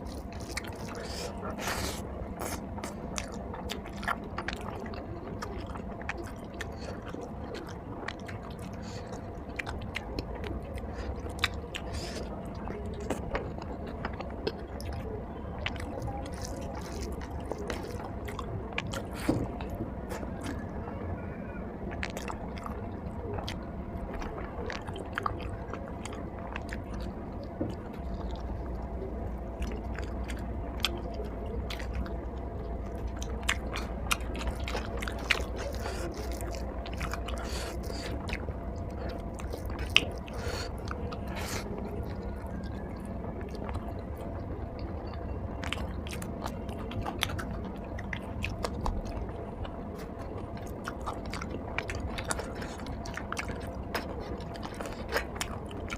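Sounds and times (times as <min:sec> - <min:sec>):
chewing with wet mouth clicks: 0:00.0 - 0:20.9, 0:21.8 - 0:55.9
steady low hum: 0:00.0 - 0:55.9.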